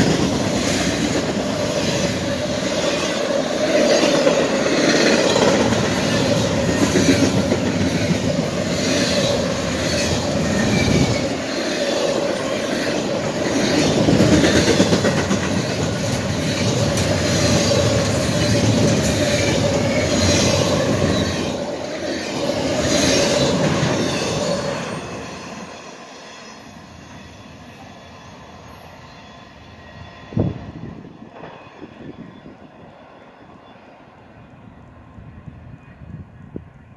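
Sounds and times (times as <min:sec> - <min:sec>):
train wheels on rails: 0:00.0 - 0:35.2.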